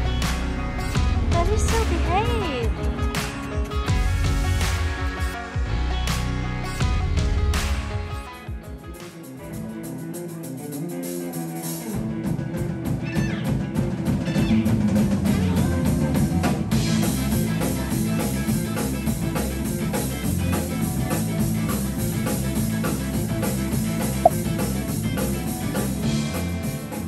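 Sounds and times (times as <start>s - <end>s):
live rock band playing: 2.7s - 27.0s.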